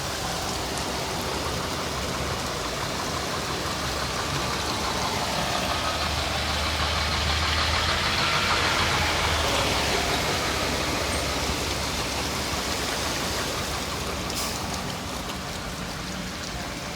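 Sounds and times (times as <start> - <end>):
heavy rain: 0.0 - 16.9
vehicle engine hum: 0.0 - 16.9.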